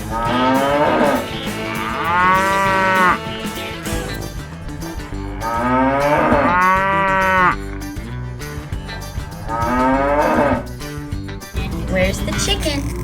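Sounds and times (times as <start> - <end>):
cow mooing: 0.0 - 10.9
background music: 0.0 - 13.0.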